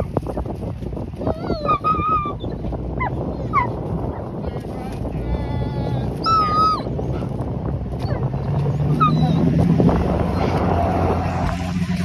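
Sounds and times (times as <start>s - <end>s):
vehicle engine rumbling: 0.0s - 12.0s
dog whining: 1.2s - 11.6s.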